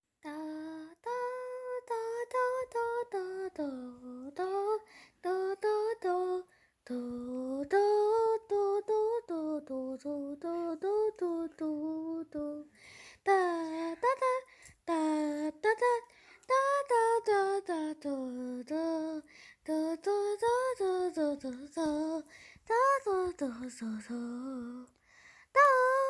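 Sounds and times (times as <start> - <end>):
woman singing unaccompanied: 0.2 - 26.0.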